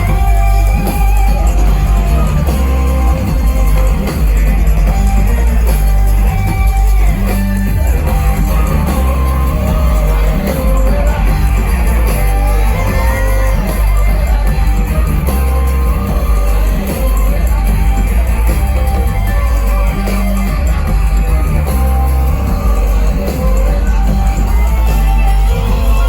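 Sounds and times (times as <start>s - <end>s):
crowd shouting: 0.0s - 26.0s
live band playing: 0.0s - 26.0s.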